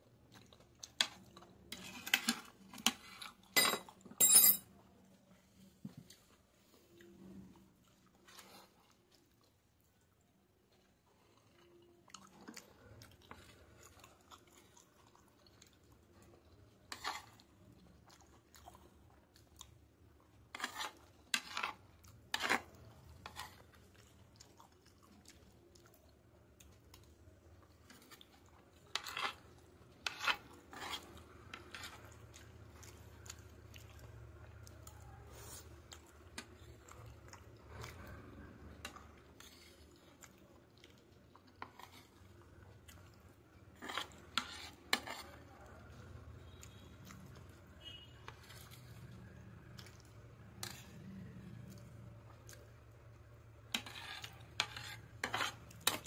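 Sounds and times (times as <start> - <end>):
person chewing: 0.1 - 3.6, 10.6 - 56.0.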